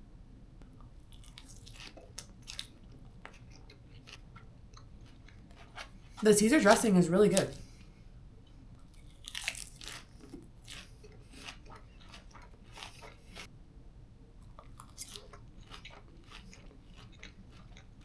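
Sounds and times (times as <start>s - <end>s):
crunchy chewing of salad: 0.9s - 7.9s, 8.8s - 13.5s, 14.4s - 18.0s.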